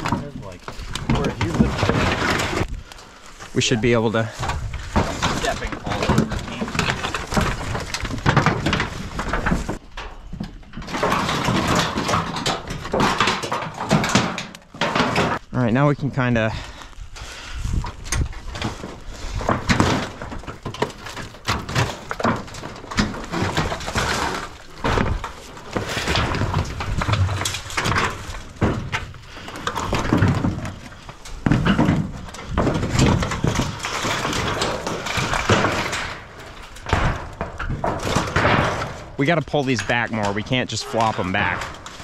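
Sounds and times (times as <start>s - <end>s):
sheet metal rattles and scrapes: 0.0s - 15.6s, 16.3s - 42.0s.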